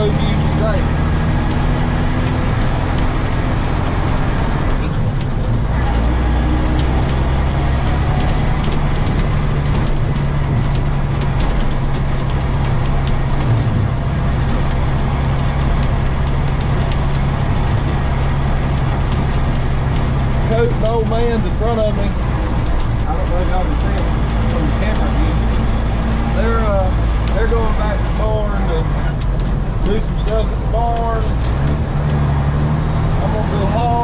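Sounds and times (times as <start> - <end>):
road noise: 0.0 - 34.0
truck engine drone: 0.0 - 34.0.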